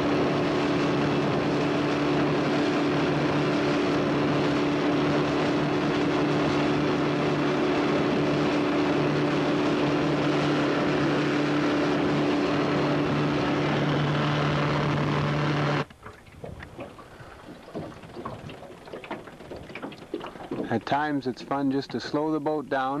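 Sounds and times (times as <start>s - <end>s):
water lapping against hull: 0.0s - 14.8s, 15.8s - 23.0s
outboard motor running: 0.0s - 22.0s
water rushing: 0.0s - 23.0s
wind: 0.0s - 23.0s.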